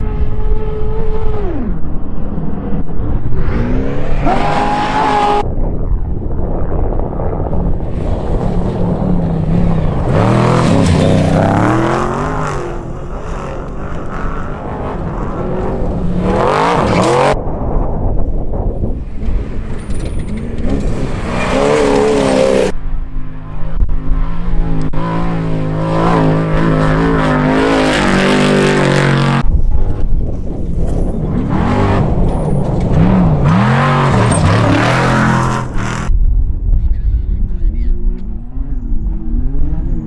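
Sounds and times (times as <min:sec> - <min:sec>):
race engines revving: 0:00.0 - 0:17.4, 0:18.9 - 0:36.1, 0:38.0 - 0:40.0.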